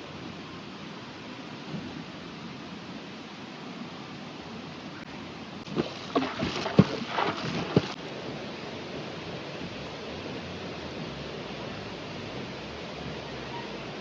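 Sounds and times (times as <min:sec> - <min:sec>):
steady rushing noise: 0:00.0 - 0:13.2.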